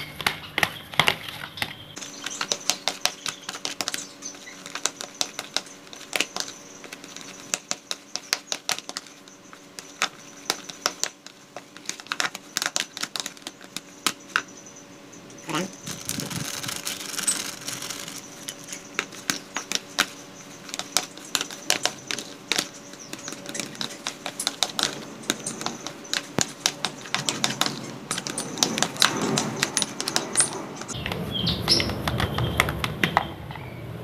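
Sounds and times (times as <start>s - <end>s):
plastic paddle scraping a bowl: 0.0s - 14.5s, 15.8s - 33.3s
bird chirps: 0.0s - 34.0s.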